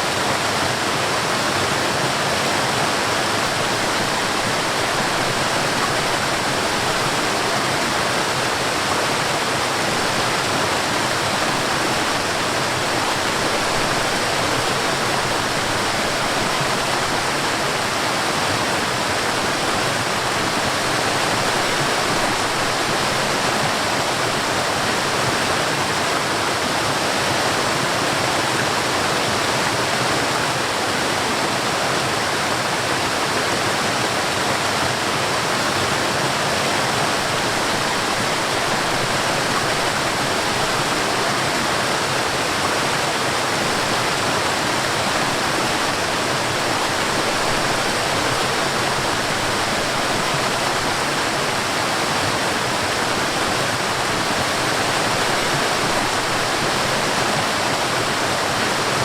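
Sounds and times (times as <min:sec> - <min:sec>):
water rushing over a waterfall: 0:00.0 - 0:59.0.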